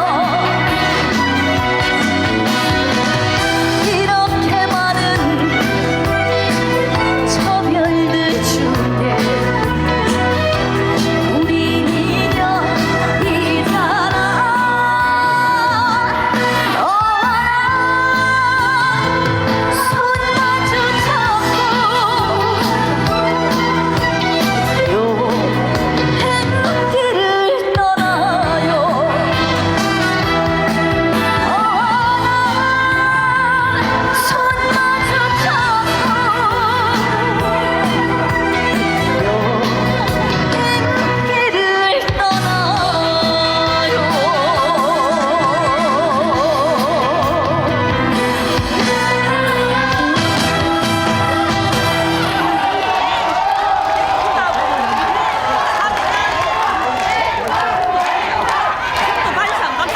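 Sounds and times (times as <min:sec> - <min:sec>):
woman singing with vibrato: 0:00.0 - 0:52.4
musical accompaniment: 0:00.0 - 0:54.6
band backing track: 0:00.0 - 0:57.2.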